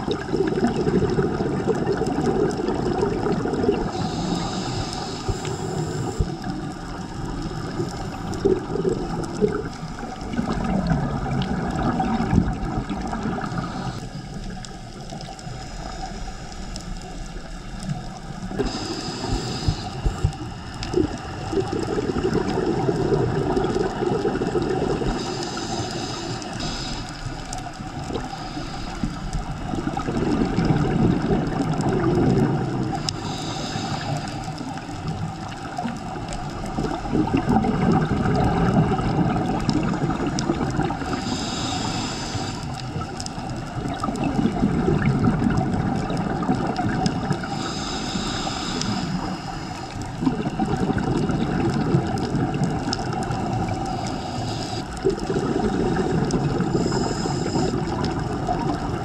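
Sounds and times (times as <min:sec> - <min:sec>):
regulator hiss on inhale: 0:00.0 - 0:45.6, 0:46.3 - 0:59.0
exhaled bubbles rumbling: 0:00.0 - 0:59.0.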